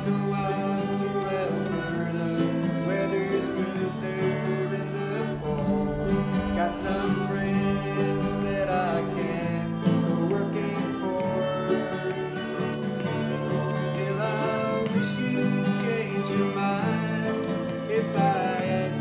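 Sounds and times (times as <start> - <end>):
acoustic folk ensemble playing: 0.0 - 19.0.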